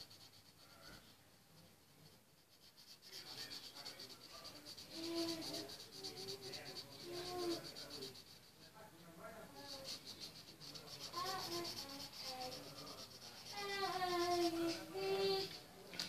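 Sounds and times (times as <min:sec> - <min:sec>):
marker pen scratching paper: 0:00.0 - 0:01.0, 0:02.3 - 0:15.6.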